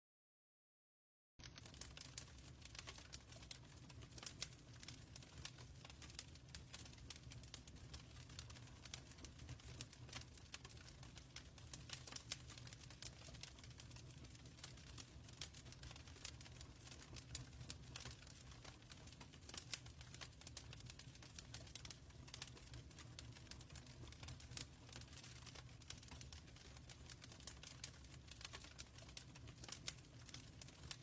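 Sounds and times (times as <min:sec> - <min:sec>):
wood fire crackling: 0:01.4 - 0:31.0.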